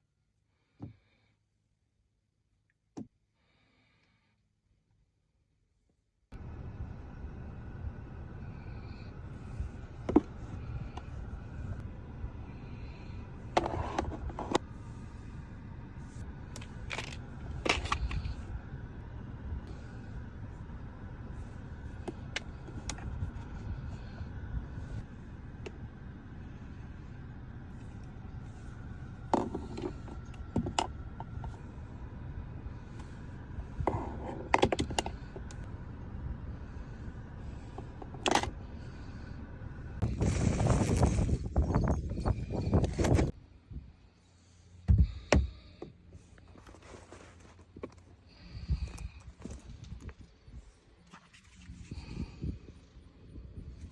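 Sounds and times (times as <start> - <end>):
low steady rumble: 6.3 - 53.9.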